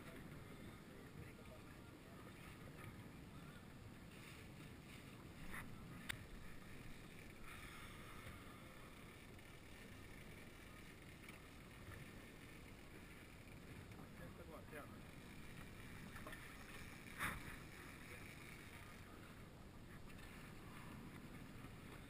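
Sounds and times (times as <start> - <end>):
faint wind: 0.0 - 22.0
water noise: 0.0 - 22.0.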